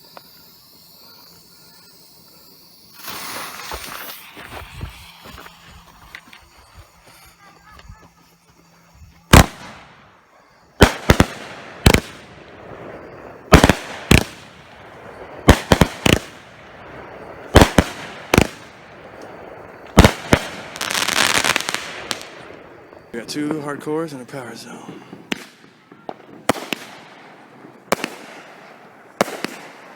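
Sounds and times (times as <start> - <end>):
firework bangs: 0.0 - 23.9, 24.5 - 29.9
firework crackling: 0.0 - 29.9.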